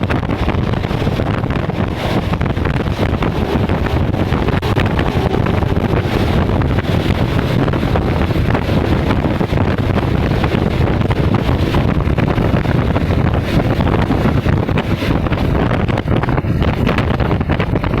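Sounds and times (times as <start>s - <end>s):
diesel locomotive rumble: 0.0s - 18.0s
wind buffeting microphone: 0.0s - 18.0s.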